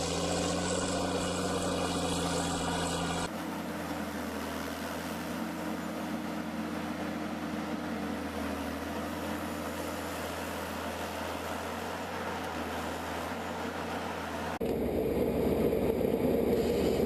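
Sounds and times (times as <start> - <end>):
heavy machinery humming: 0.0 - 17.0.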